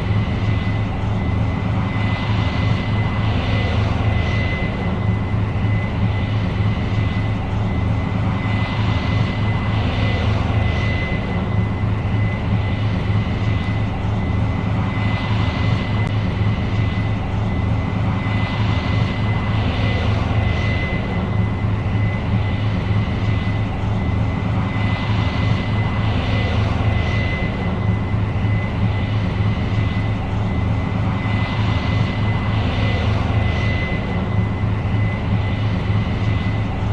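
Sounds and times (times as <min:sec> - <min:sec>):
combine engine drone: 0:00.0 - 0:36.9
constant high whine: 0:00.0 - 0:36.9.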